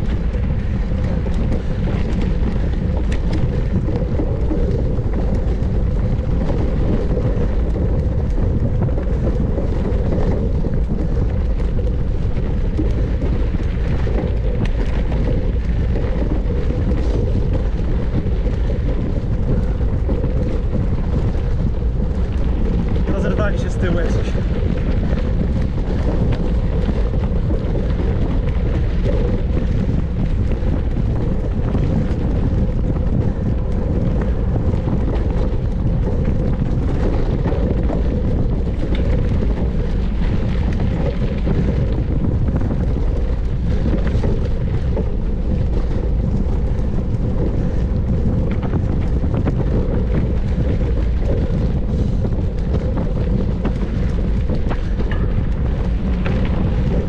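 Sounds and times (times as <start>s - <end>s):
bike tyre and frame rattle: 0.0s - 57.0s
wind on microphone: 0.0s - 57.0s.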